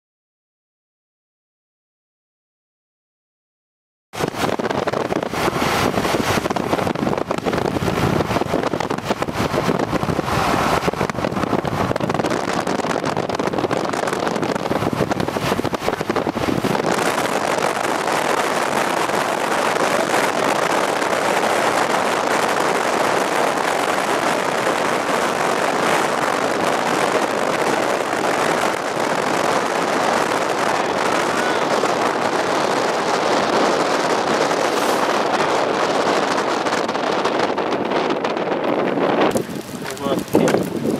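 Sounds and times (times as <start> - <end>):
vehicle rushing noise: 4.2 - 40.9
wind crackling on microphone: 4.2 - 40.9.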